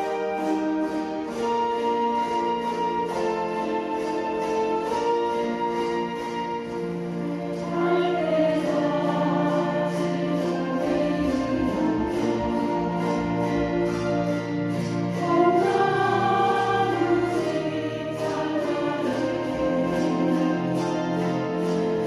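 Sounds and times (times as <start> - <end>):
chromaharp chords: 0.0 - 22.0.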